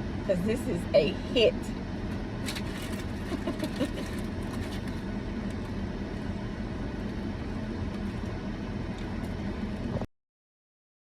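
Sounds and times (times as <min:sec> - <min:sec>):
vehicle rumble: 0:00.0 - 0:10.1.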